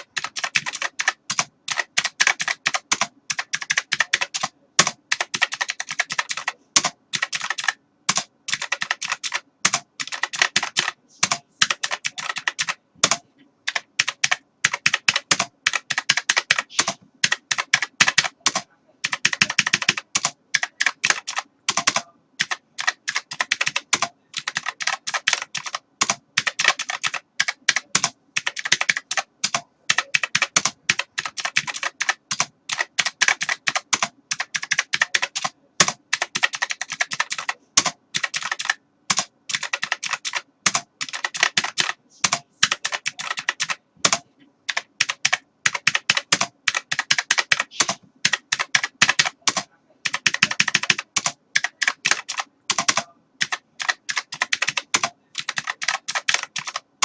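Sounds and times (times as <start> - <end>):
keyboard typing: 0.0 - 57.0.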